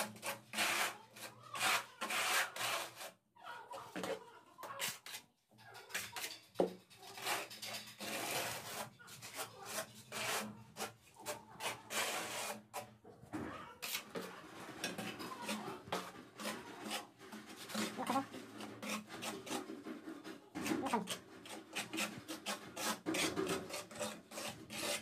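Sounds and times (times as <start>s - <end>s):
trowel scraping tile adhesive: 0.0s - 3.2s, 4.0s - 13.0s, 13.6s - 25.0s.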